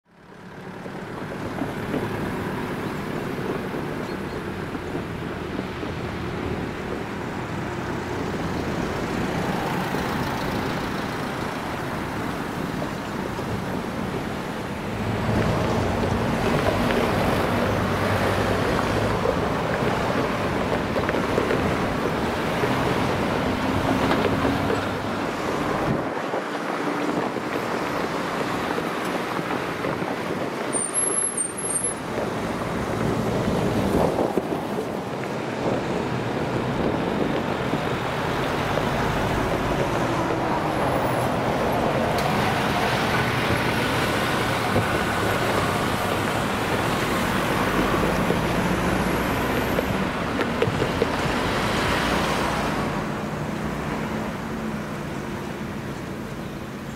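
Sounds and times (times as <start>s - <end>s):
road traffic passing: 0.0s - 56.9s.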